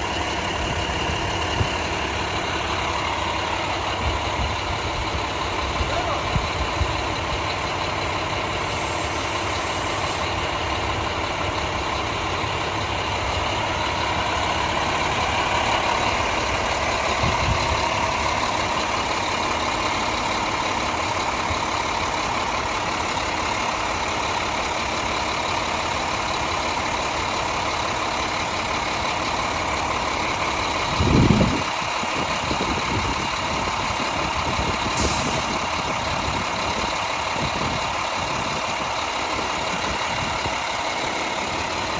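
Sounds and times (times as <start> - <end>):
diesel engines idling: 0.0 - 41.9.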